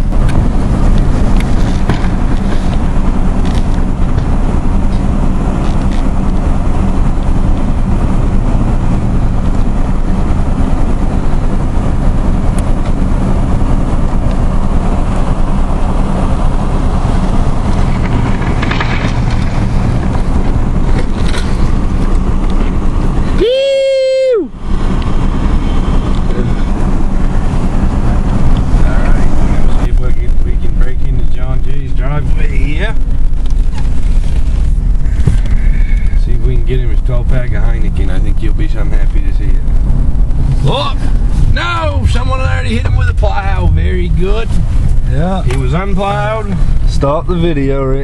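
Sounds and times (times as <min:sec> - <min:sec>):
constant rushing noise: 0:00.0 - 0:48.0
truck engine running: 0:00.0 - 0:48.0.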